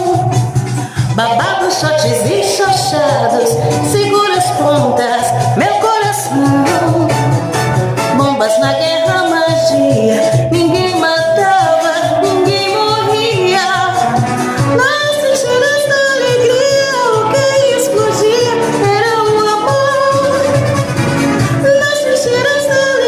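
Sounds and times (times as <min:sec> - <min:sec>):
instrumental accompaniment: 0:00.0 - 0:23.0
woman singing with vibrato: 0:00.0 - 0:23.0.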